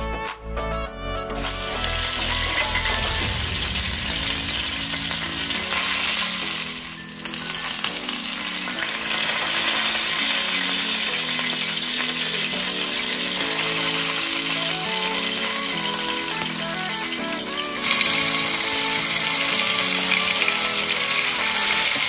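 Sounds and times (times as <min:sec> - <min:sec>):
oil sizzling around frying fish: 0:01.4 - 0:22.0.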